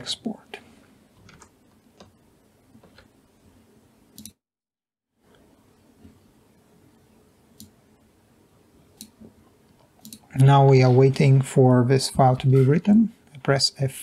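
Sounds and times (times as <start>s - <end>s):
faint room hiss: 0.0s - 4.4s, 5.1s - 14.0s.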